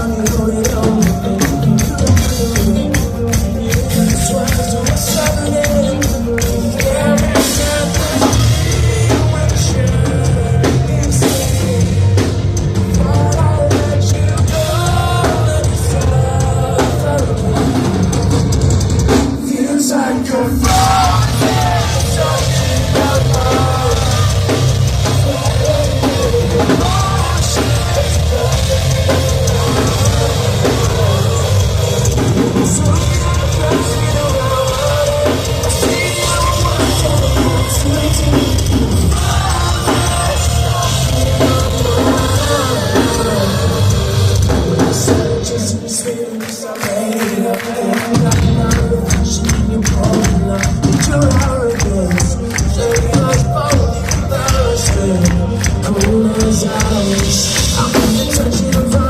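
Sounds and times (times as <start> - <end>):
bass guitar: 0.0 - 59.0
driving drum kit: 0.0 - 59.0
live rock band playing: 0.0 - 59.0
person singing: 0.0 - 59.0.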